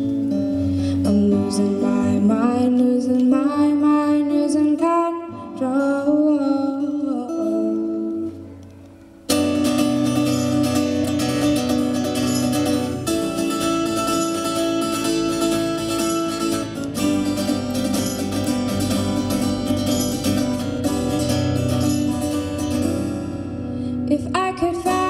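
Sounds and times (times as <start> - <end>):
guitar playing chords: 0.0 - 25.0.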